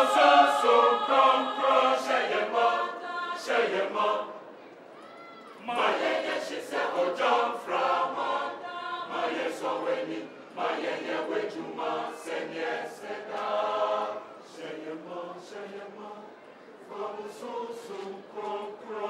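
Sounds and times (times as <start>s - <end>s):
mixed choir singing: 0.0s - 4.6s, 5.6s - 19.0s.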